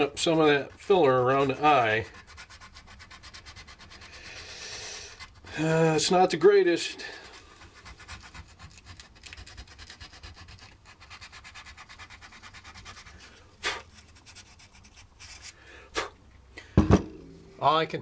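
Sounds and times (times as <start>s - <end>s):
hand sanding rubbing strokes: 0.0s - 16.1s.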